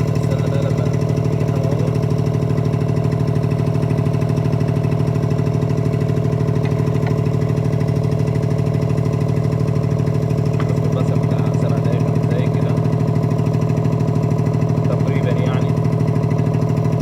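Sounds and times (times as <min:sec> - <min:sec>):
small engine running with throb: 0:00.0 - 0:17.0.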